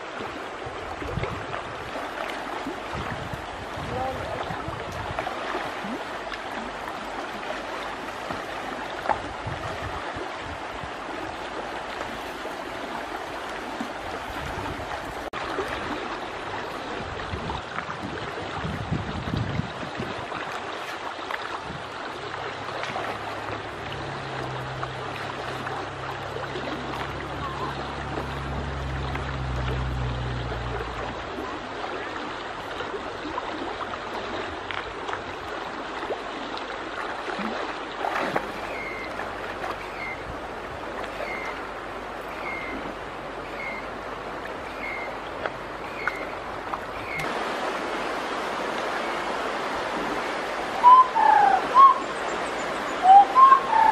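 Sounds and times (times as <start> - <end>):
river water flowing over stones: 0.0 - 53.9.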